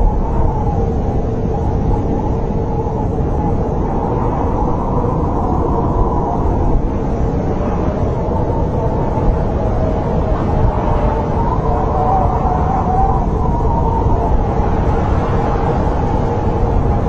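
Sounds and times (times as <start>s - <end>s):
howling storm wind: 0.0s - 17.0s.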